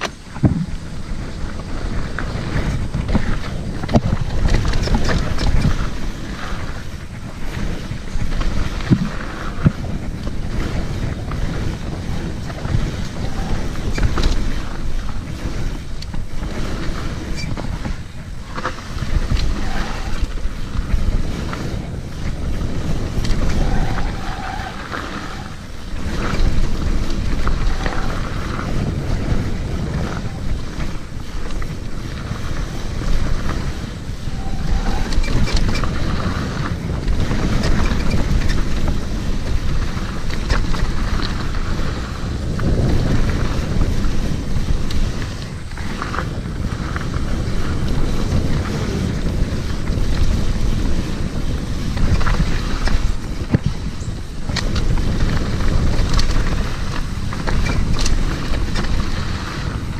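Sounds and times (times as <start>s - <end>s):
bike knocking and clattering: 0.0s - 59.9s
tyre noise on dirt: 0.0s - 59.9s
wind rushing over microphone: 0.0s - 59.9s.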